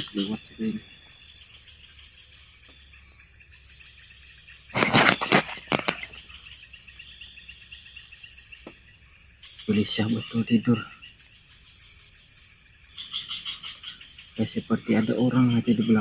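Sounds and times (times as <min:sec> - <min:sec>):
insects chirping in pulsing chorus: 0:00.0 - 0:16.0.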